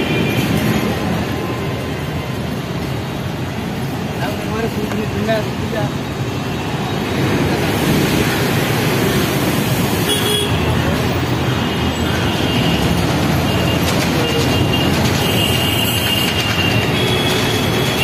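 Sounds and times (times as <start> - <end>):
heavy road traffic rumble: 0.0 - 18.0.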